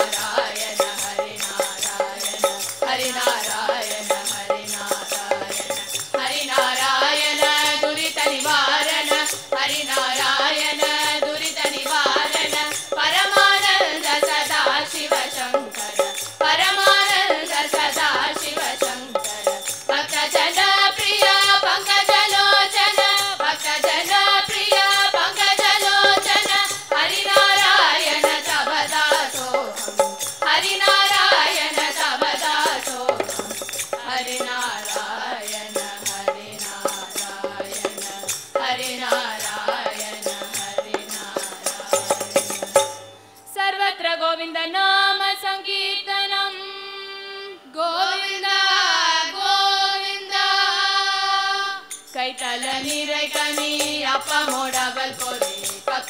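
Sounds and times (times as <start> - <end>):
girls singing together: 0.0 - 42.2, 43.5 - 56.0
hand percussion beat: 0.0 - 43.3, 51.9 - 56.0.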